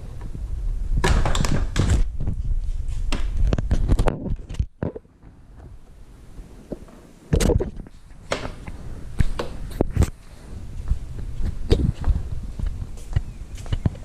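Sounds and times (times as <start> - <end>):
low rumble: 0.0 - 6.6, 7.5 - 13.5.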